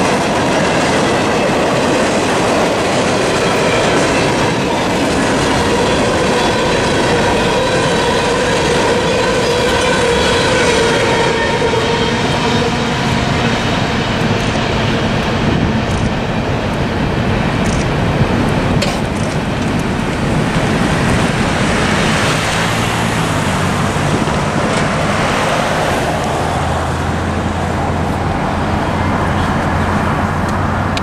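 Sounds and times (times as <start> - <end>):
traffic on wet pavement: 0.0 - 31.0.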